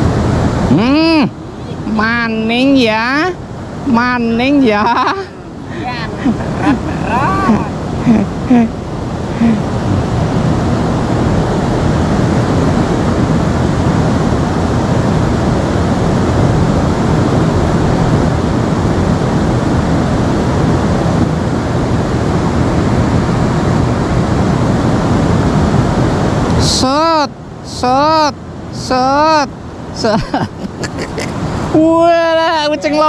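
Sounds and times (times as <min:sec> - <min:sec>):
flowing river water: 0:00.0 - 0:33.0.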